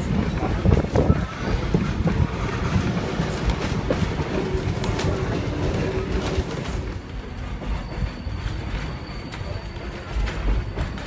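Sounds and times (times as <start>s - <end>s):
train rumbling on track: 0.0s - 11.0s
train wheels clicking: 0.0s - 11.0s.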